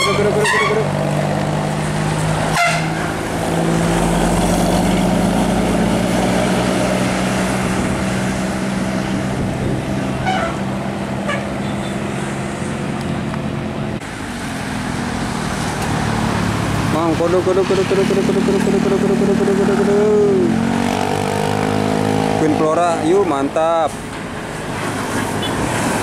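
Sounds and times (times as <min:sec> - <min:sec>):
bus diesel engine droning: 0:00.0 - 0:15.5, 0:16.9 - 0:25.0
traffic noise: 0:00.0 - 0:26.0.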